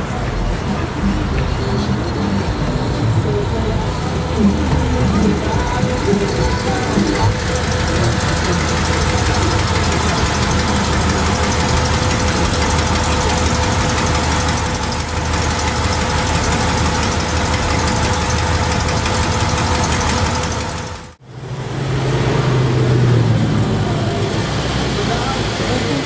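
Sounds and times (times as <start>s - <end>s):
car engine idling: 0.0s - 21.2s.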